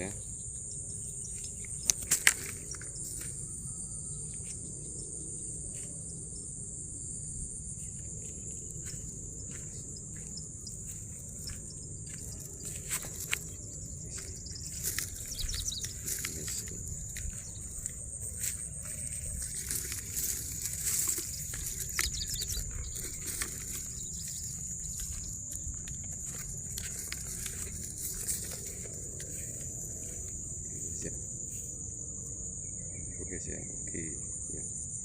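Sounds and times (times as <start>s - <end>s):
insect chorus drone: 0.0s - 35.0s.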